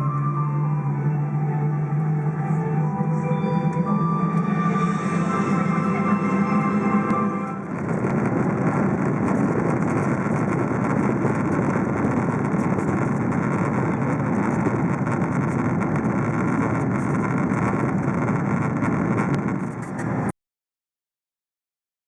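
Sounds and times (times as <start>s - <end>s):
aircraft cabin rumble and hiss: 1.9s - 20.3s.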